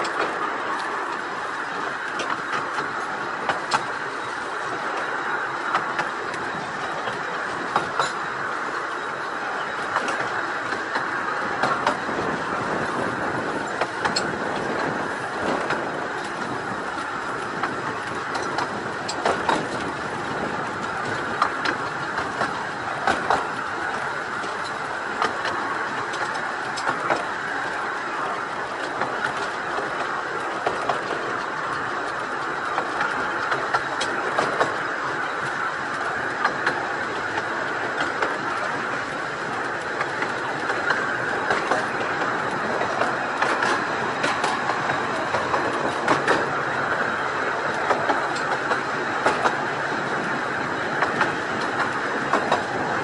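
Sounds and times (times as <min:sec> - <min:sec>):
train wheels rumbling on rails: 0:00.0 - 0:53.0
wheels clicking over rail joints: 0:00.0 - 0:53.0.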